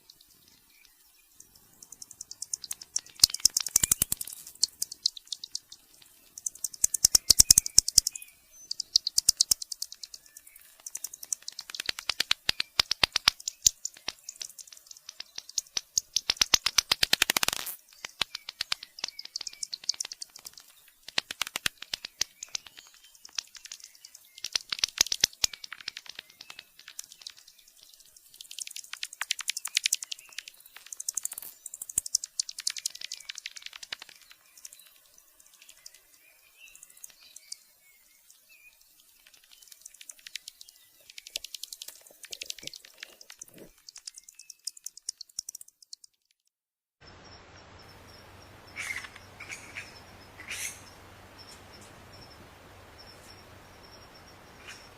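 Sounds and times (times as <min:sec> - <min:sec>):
steady hiss: 0:00.0 - 0:45.1, 0:47.0 - 0:54.9
bats chittering: 0:00.0 - 0:46.2, 0:47.7 - 0:54.9.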